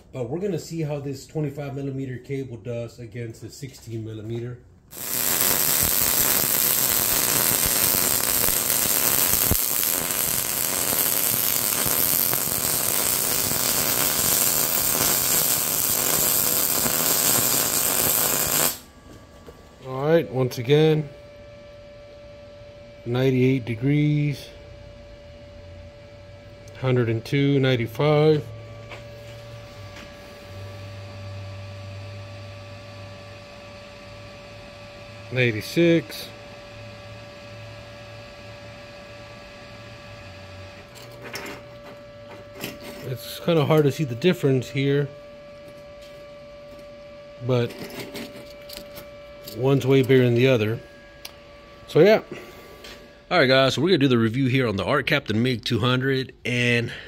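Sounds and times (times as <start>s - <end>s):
low electrical hum: 0.0s - 57.0s
welding arc sizzle: 4.9s - 21.1s, 26.4s - 39.0s, 39.8s - 56.8s.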